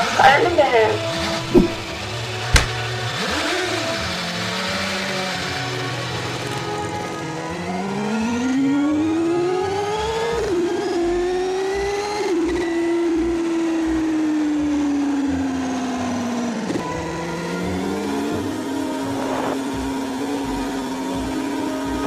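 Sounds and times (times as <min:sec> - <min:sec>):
motorbike engine revving: 0:01.2 - 0:06.2, 0:07.8 - 0:22.0.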